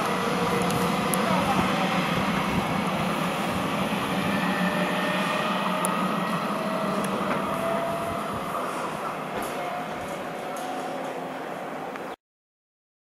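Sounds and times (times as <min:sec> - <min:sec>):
train rumble on track: 0:00.0 - 0:12.1.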